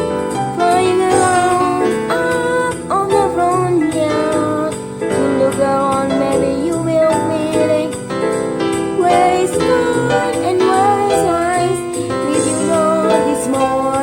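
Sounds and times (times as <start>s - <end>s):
children's song melody over beat: 0.0s - 14.0s.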